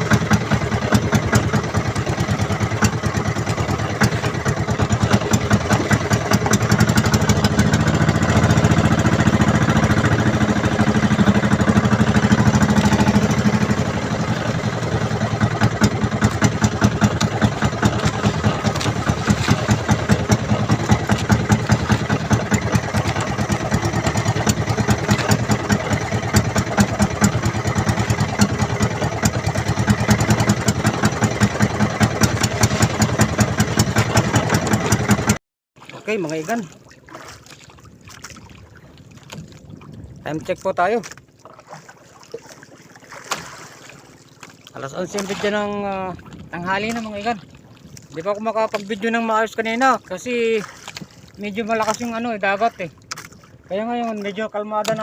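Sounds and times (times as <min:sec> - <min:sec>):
boat engine chugging: 0:00.0 - 0:55.0.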